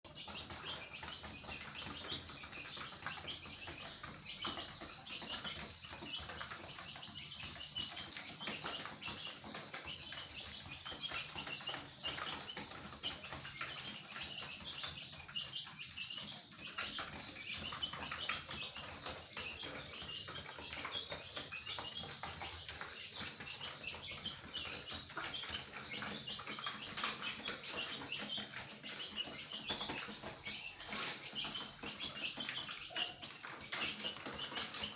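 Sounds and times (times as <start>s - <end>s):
many birds chirping: 0.1s - 34.9s.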